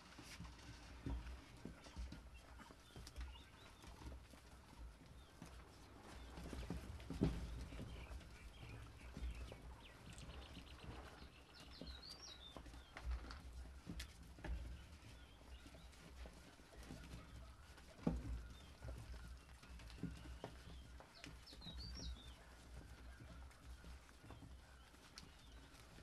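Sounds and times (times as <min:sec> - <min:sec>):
puppies chewing: 0:00.2 - 0:26.0.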